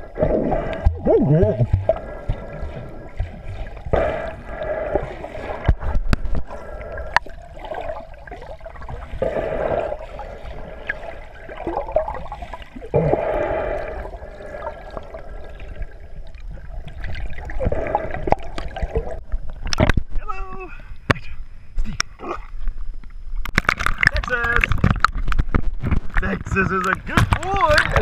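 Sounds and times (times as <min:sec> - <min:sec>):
underwater churning and bubbling: 0:00.0 - 0:20.2, 0:20.8 - 0:26.2.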